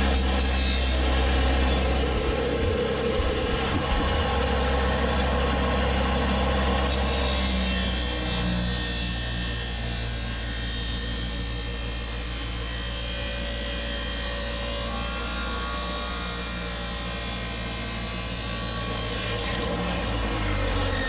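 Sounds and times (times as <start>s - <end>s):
power tool cutting metal pipe: 0.0s - 21.0s.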